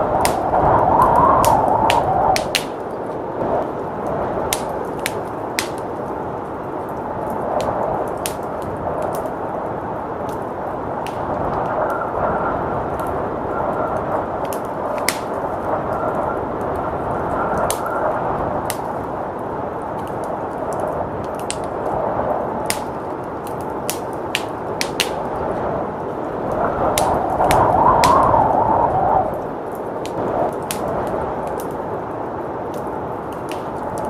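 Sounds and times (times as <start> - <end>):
blizzard wind rushing: 0.0 - 34.0
wood fire crackling and popping: 0.0 - 34.0.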